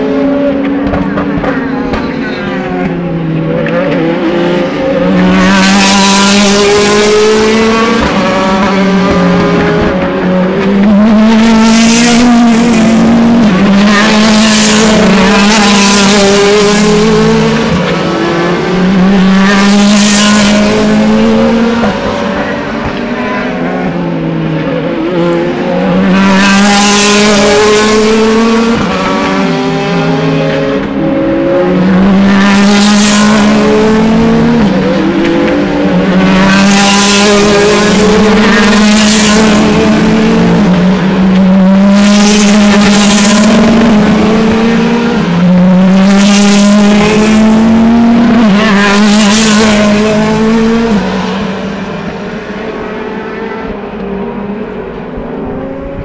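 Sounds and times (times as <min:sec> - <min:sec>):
race cars accelerating past: 0:00.0 - 0:56.0.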